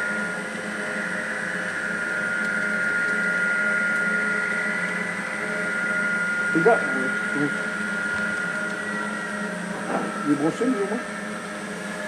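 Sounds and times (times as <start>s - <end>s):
model train whine: 0.0s - 12.0s.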